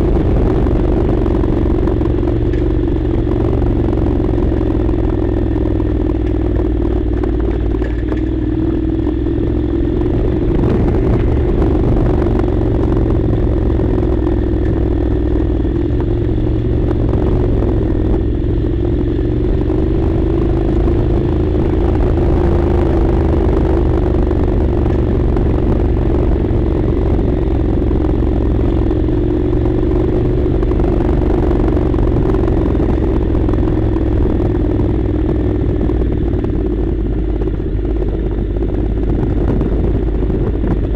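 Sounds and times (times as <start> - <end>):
low rumble: 0.0 - 40.9
motorcycle engine running: 0.0 - 40.9.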